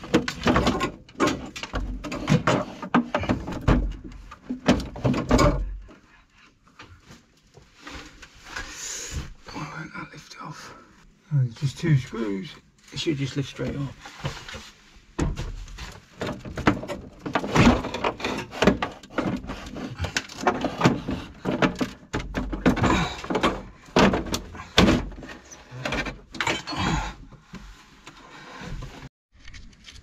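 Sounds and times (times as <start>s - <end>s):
knocks clunks and scrapes: 0.0s - 9.6s, 12.7s - 29.6s.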